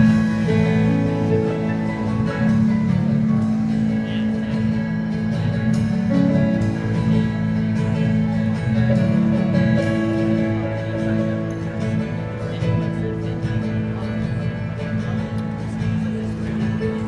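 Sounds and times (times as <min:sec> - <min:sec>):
band playing instrumental: 0:00.0 - 0:17.0
strummed guitar: 0:00.0 - 0:17.0.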